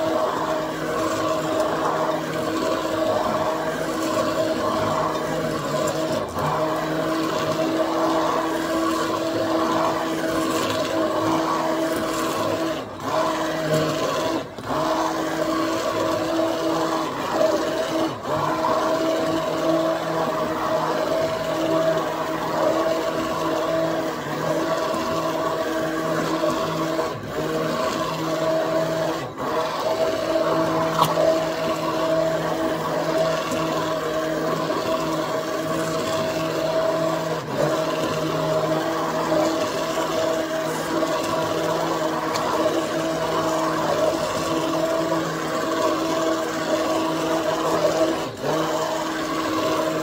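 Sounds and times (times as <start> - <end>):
liquid churning: 0.0 - 50.0
stick blender motor whine: 0.0 - 50.0.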